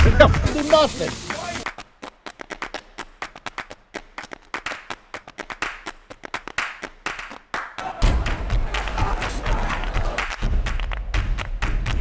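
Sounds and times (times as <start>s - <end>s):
hand clapping: 0.2s - 7.9s, 8.7s - 12.0s.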